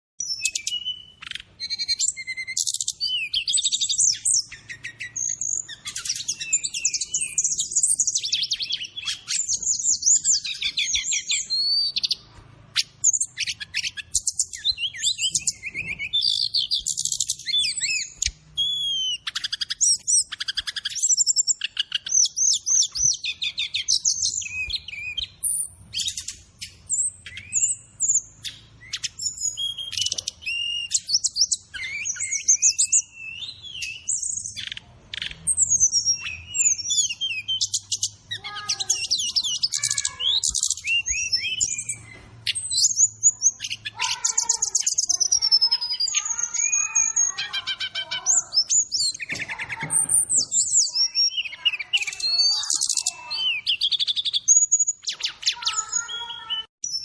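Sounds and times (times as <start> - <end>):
bird singing chirps and trills: 0.2 - 57.0.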